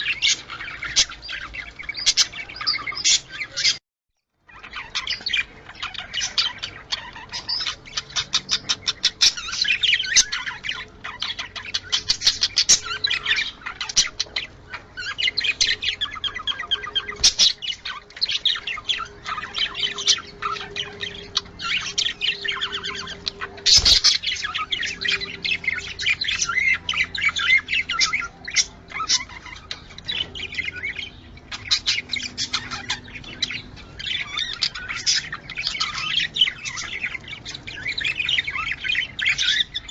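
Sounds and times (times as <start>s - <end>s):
budgerigars chattering: 0.0s - 3.8s, 4.5s - 39.9s.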